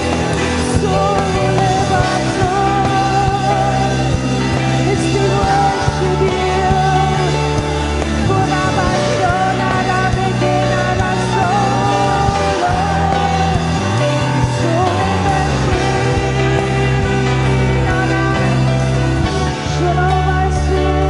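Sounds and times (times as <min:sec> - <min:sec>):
band playing slow song: 0:00.0 - 0:21.0
person singing: 0:00.0 - 0:21.0.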